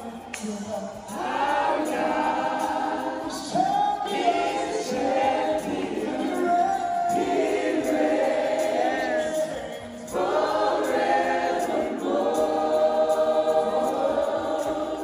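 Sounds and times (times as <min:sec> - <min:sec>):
congregation singing worship song: 0:00.0 - 0:15.0.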